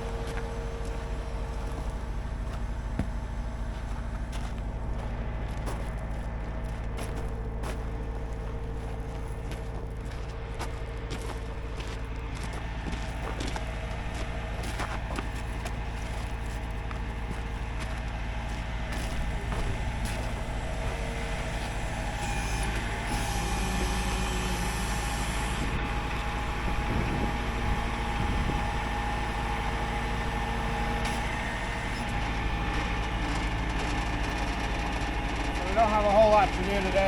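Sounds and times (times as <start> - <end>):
steady whine: 0.0 - 37.0
truck engine running: 0.0 - 37.0.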